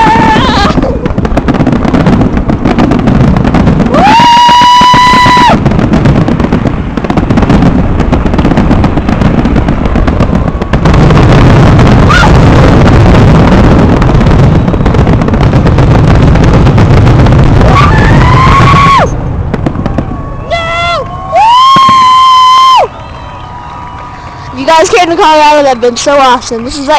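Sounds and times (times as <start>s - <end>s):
fireworks banging and crackling: 0.0s - 26.9s.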